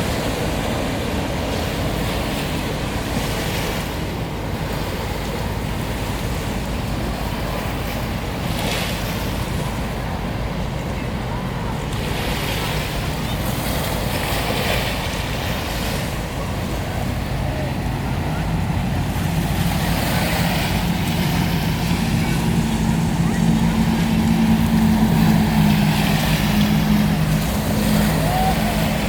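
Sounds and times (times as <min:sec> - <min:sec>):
waves washing: 0:00.0 - 0:29.0
wind buffeting microphone: 0:00.0 - 0:29.0.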